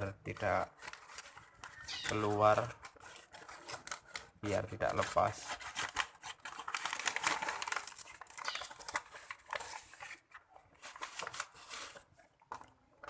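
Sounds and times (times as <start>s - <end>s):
packaging rustling and crinkling: 0.3s - 12.7s.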